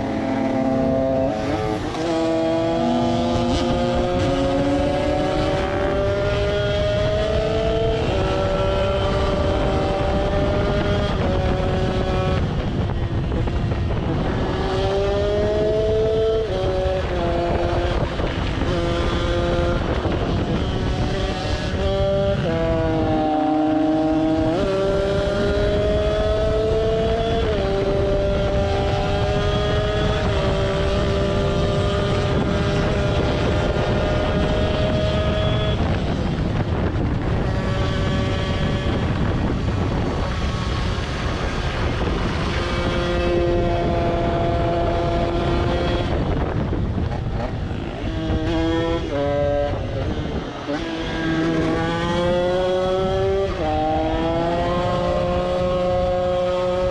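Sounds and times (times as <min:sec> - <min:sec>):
two-stroke engine revving high: 0:00.0 - 0:56.9.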